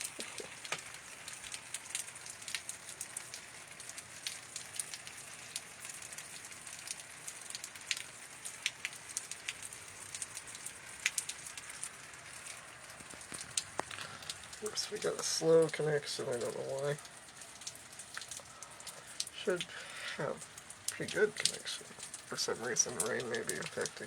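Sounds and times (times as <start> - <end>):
rain hissing: 0.0 - 24.0
raindrop taps: 0.0 - 24.0.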